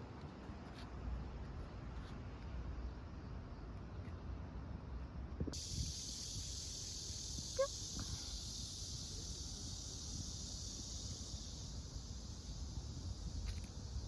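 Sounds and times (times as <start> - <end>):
high insect chorus: 0.6 - 14.0.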